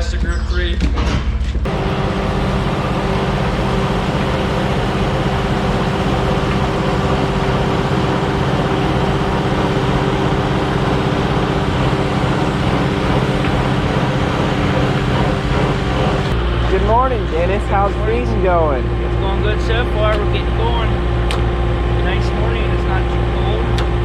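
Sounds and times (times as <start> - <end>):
farm machine engine humming: 1.7 - 24.0.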